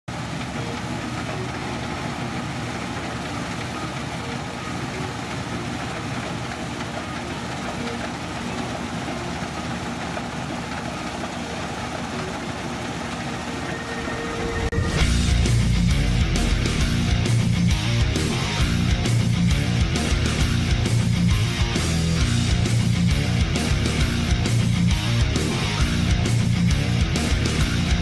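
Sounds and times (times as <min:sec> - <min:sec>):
combine harvester drone: 0:00.1 - 0:28.0.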